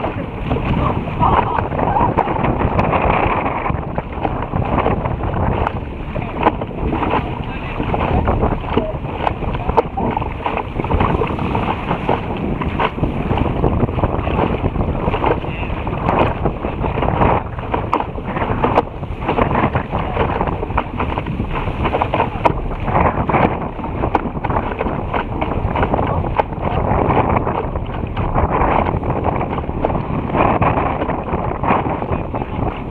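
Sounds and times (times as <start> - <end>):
water splashing against boat bow: 0.0 - 32.9
wind buffeting microphone: 0.0 - 32.9.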